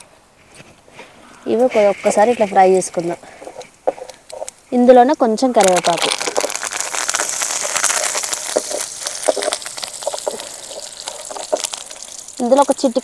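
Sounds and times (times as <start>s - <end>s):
crackles: 0.0s - 13.0s
leaves sizzling in hot oil: 1.8s - 13.0s.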